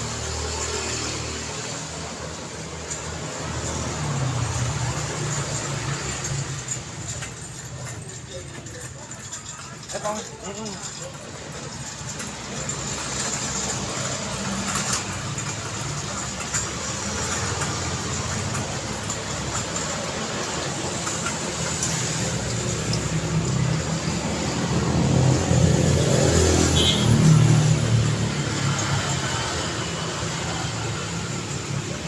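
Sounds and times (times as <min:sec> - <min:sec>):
vehicle approaching: 0:00.0 - 0:32.0
vehicle engines passing: 0:00.0 - 0:32.0.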